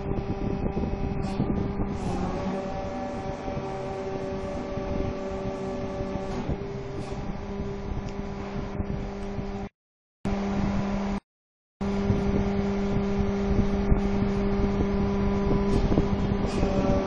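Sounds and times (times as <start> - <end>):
electric motor humming: 0.0 - 9.7, 11.8 - 17.0.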